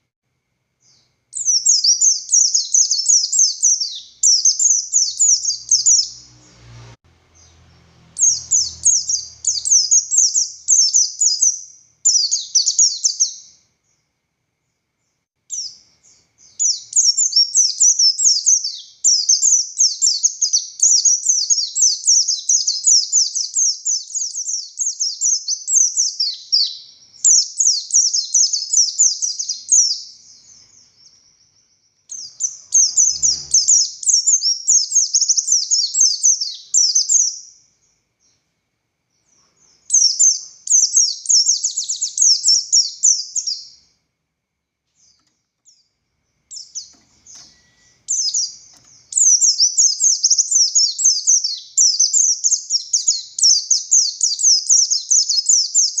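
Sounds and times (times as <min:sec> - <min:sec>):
bird singing chattering song: 0:00.8 - 0:14.0, 0:14.7 - 0:38.4, 0:39.1 - 0:43.9, 0:44.9 - 0:56.0.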